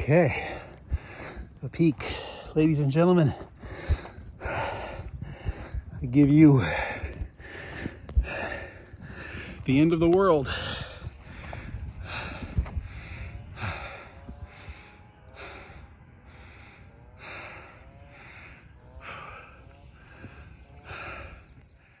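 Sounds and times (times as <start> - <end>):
man breathing hard: 0.0 - 22.0.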